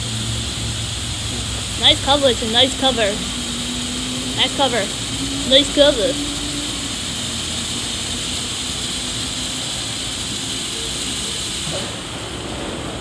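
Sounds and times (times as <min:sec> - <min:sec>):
water spray hissing: 0:00.0 - 0:12.7
machinery hum: 0:00.0 - 0:13.0.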